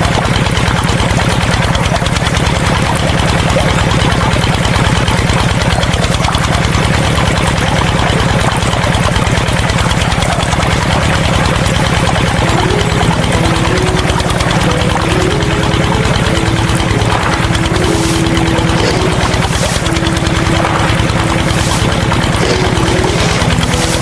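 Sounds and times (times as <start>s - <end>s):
diesel engine knocking: 0.0s - 24.0s.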